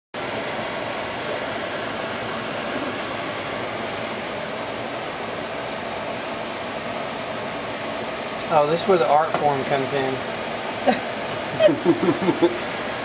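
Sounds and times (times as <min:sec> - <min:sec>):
faint fan hum: 0:00.2 - 0:13.0
fan whooshing: 0:00.2 - 0:13.0.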